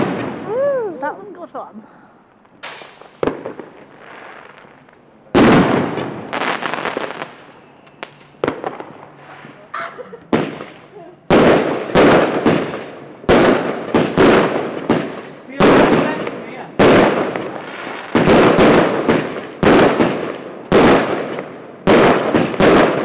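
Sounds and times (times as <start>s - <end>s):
fireworks bangs: 0.0s - 1.2s, 2.5s - 23.0s.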